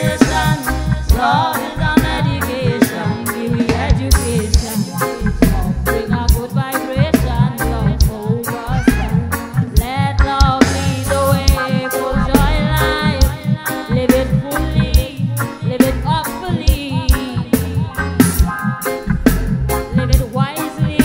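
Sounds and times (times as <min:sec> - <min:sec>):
woman singing: 0:00.0 - 0:18.1, 0:19.9 - 0:21.0
reggae band playing: 0:00.0 - 0:21.0.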